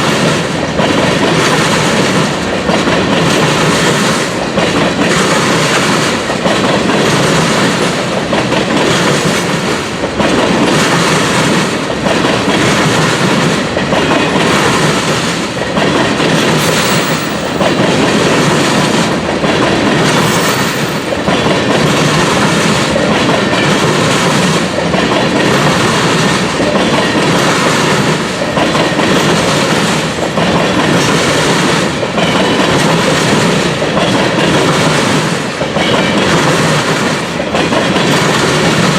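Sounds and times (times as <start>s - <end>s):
freight train wheels on rails: 0.0s - 38.9s
train wheels clickety-clack: 0.0s - 38.9s.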